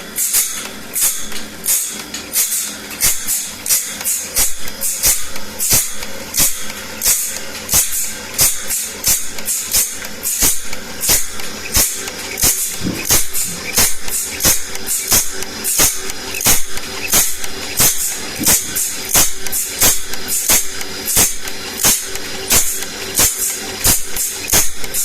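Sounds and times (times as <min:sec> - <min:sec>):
file rasping on saw blade: 0:00.2 - 0:25.0.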